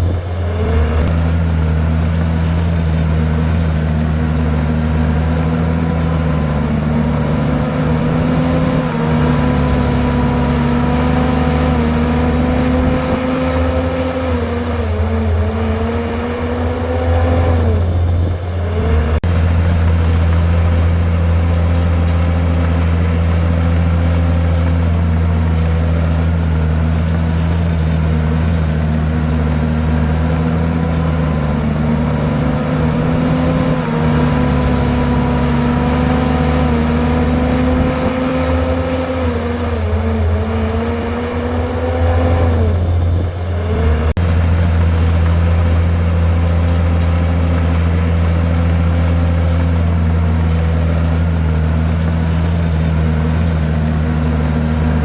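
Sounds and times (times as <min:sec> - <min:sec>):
blade pushing rock and soil: 0:00.0 - 0:55.0
bulldozer diesel engine under load: 0:00.0 - 0:55.0.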